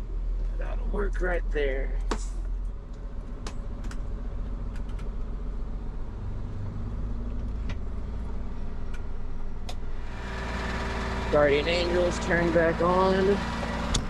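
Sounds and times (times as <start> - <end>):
tow truck engine running: 0.0 - 14.0.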